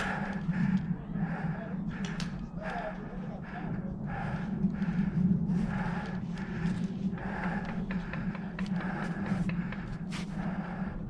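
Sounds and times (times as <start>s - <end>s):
heavy rhythmic breathing: 0.0s - 11.0s.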